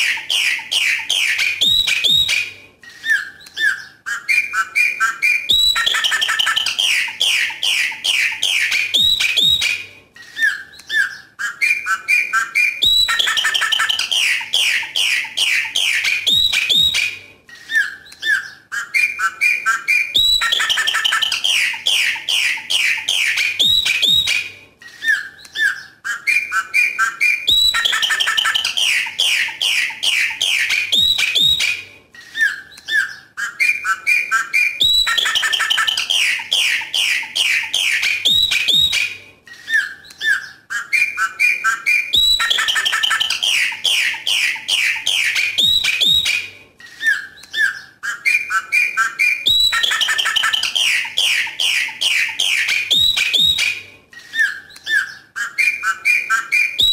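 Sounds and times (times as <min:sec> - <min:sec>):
blackbird singing: 0:00.0 - 0:56.9.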